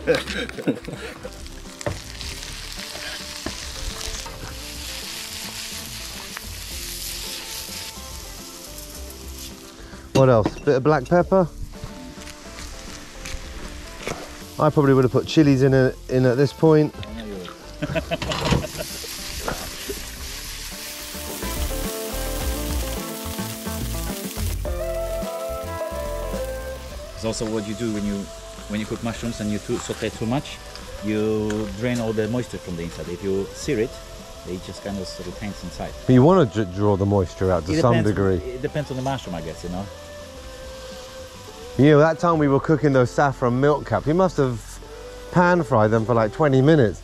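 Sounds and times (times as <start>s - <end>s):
background music: 0.0s - 47.0s
mushrooms sizzling in frying pan: 0.0s - 47.0s.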